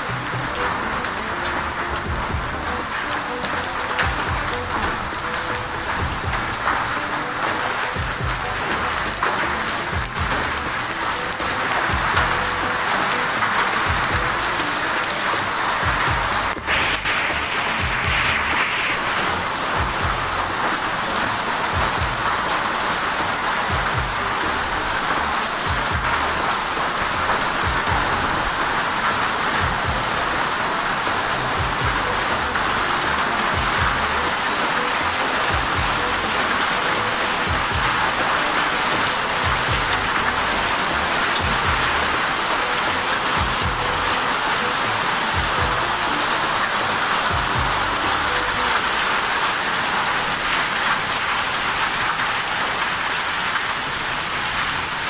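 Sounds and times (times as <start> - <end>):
heavy rain and hail on concrete: 0.0 - 55.0.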